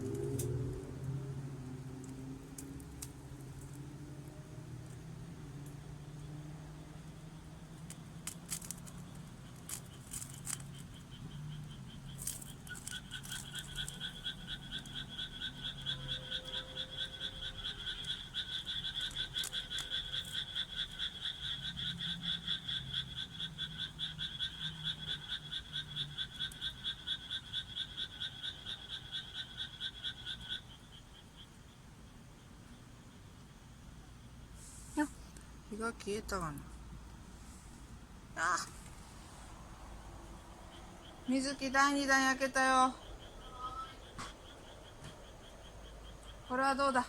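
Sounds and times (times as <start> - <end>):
frog croaking: 0.0 - 34.2, 38.3 - 47.0.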